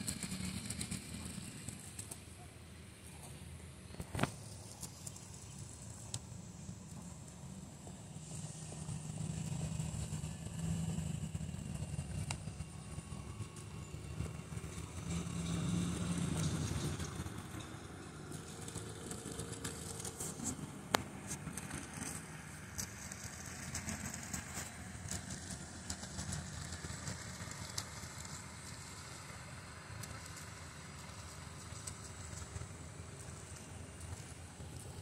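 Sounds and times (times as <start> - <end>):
distant traffic rumble: 0.0 - 35.0
light crackles: 3.0 - 17.7, 18.3 - 35.0.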